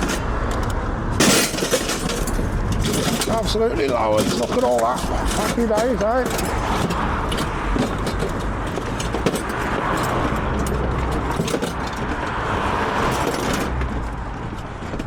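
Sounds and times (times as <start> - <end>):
small rattles and clicks: 0.0 - 12.4
road noise: 0.0 - 15.0
vehicle engine rumble: 0.0 - 15.0.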